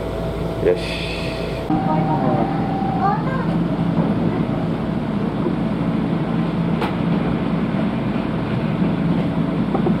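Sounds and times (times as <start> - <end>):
train equipment hum: 0.0 - 10.0.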